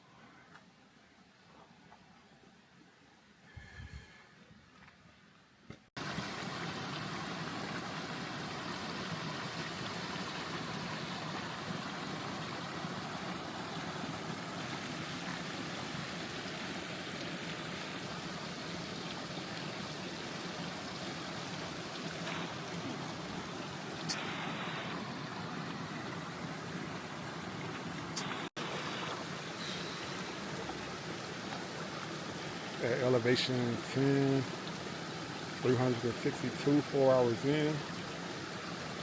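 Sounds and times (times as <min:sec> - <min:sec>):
mountain creek rushing: 0:06.0 - 0:39.0.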